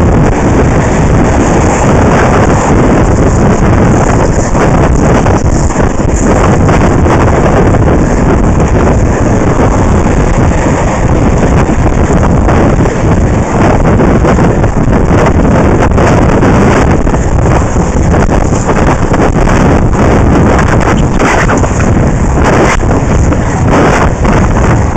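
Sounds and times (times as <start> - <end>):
skate wheels rolling on asphalt: 0.0 - 24.9
wind buffeting microphone: 0.0 - 24.9.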